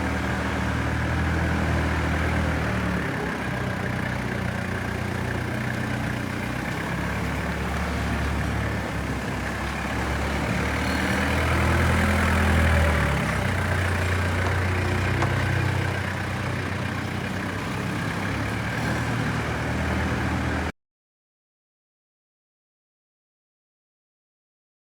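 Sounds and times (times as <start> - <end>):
forklift diesel engine idling: 0.0 - 20.7.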